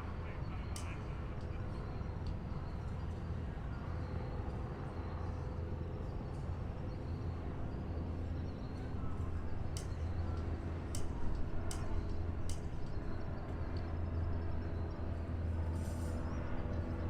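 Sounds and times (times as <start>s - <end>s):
harbour and city rumble: 0.0s - 17.0s.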